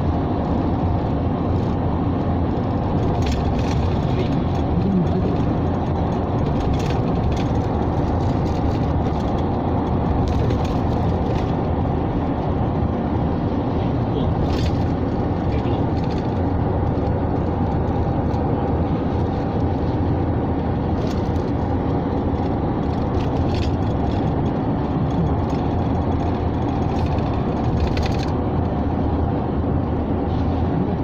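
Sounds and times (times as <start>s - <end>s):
wind: 0.0s - 31.0s.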